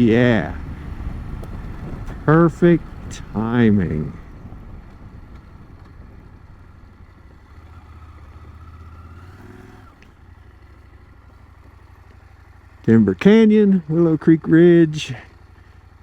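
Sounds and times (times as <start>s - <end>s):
motorcycle engine running at low revs: 0.0s - 16.0s.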